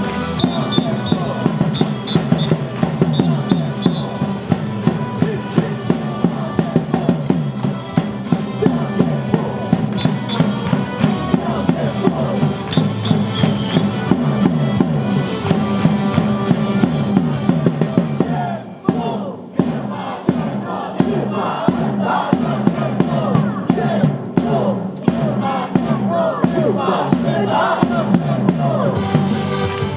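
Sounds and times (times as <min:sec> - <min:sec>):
cheer song with drum beat: 0:00.0 - 0:29.9
voices singing along: 0:00.0 - 0:29.9.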